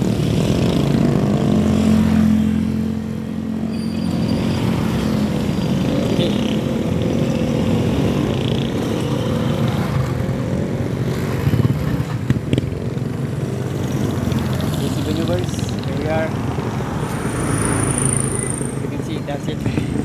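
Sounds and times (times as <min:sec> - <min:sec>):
motorcycle engines passing: 0:00.0 - 0:20.0.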